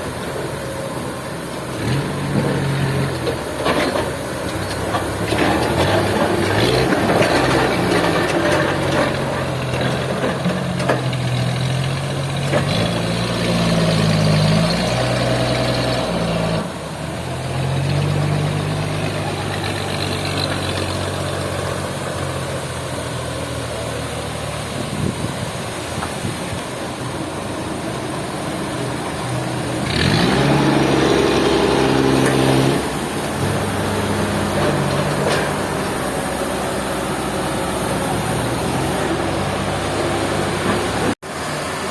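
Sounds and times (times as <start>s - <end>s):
engine running and revving: 1.6s - 23.0s, 27.9s - 41.9s.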